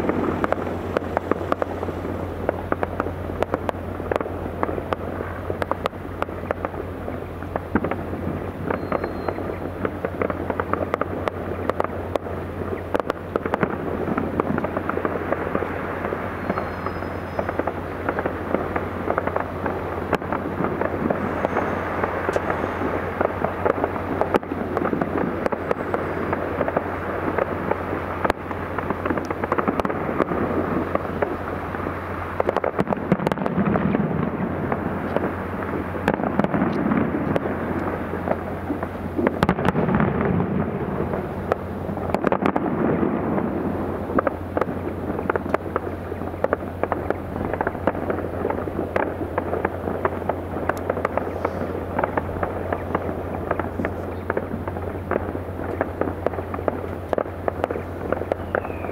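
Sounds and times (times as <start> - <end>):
fireworks crackling and popping: 0.0 - 58.9
low hum: 0.0 - 58.9
sharp fireworks cracks: 0.0 - 58.9.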